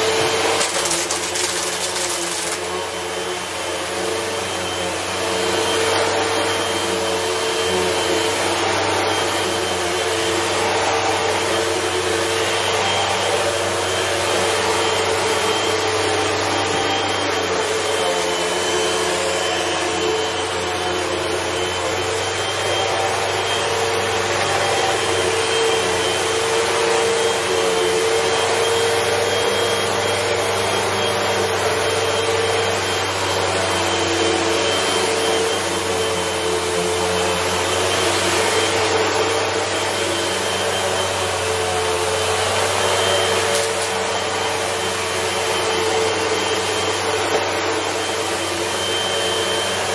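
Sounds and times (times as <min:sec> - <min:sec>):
vacuum cleaner running on rug: 0:00.0 - 0:49.9.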